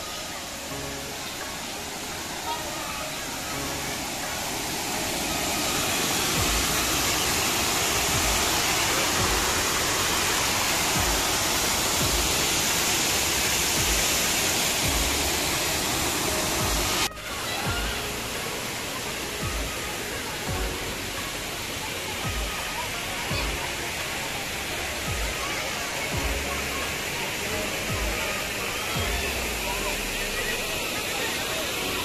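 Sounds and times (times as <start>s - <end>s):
river water rushing over weir: 0.0s - 32.0s.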